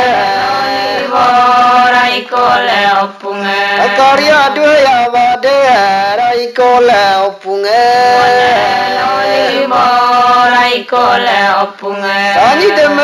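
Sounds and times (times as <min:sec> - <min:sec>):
person chanting: 0:00.0 - 0:13.0.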